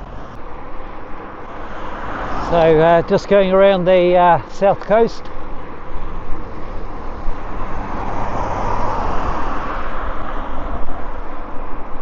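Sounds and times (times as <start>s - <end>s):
bike tyres on road: 0.0s - 12.0s.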